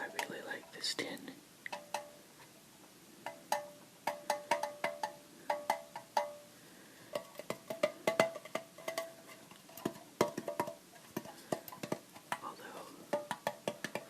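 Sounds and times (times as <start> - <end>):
rapid tapping on metal tin: 0.0 - 2.2, 3.2 - 14.0.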